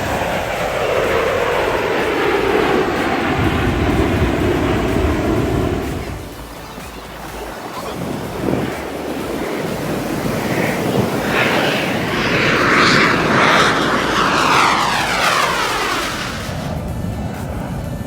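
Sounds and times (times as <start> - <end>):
aircraft flying past: 0.0 - 18.0.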